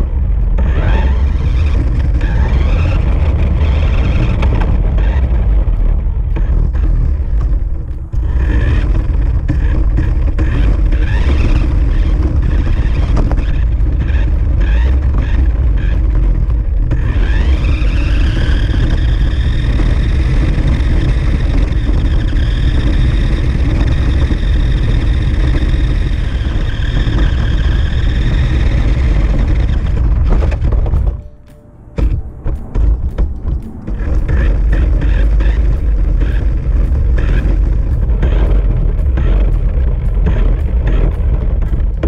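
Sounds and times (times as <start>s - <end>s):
tyres rumbling on pavement: 0.0s - 42.0s
toy car motor whining: 0.6s - 5.5s, 8.1s - 31.1s, 33.9s - 42.0s.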